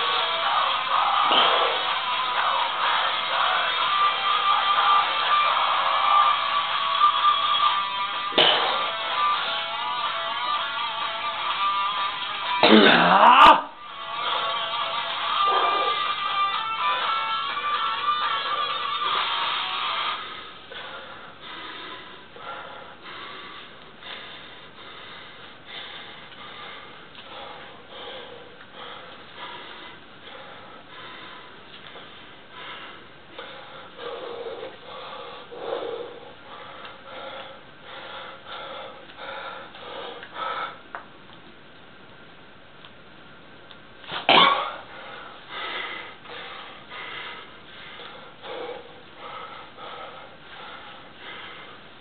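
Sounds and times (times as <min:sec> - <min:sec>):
man breathing hard through nose: 0:00.0 - 0:12.6, 0:13.8 - 0:41.1, 0:44.0 - 0:52.0.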